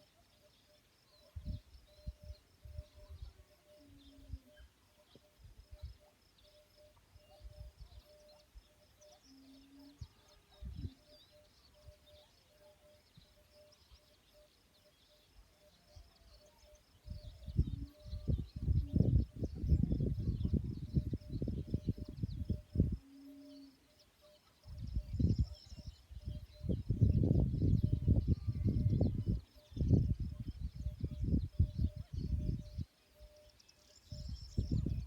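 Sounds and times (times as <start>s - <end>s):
small high bird chirps: 0.0s - 35.0s.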